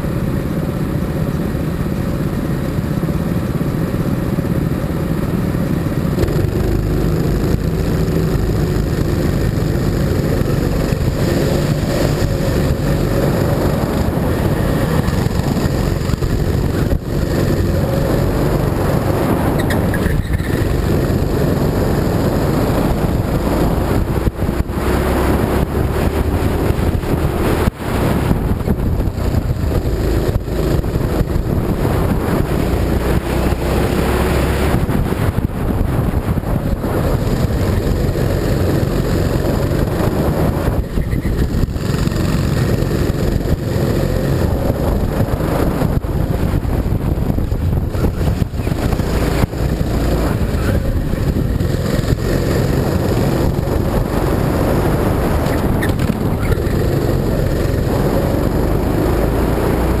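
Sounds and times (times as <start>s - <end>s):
go-kart engine revving: 0.0s - 60.0s
wind buffeting microphone: 5.9s - 60.0s.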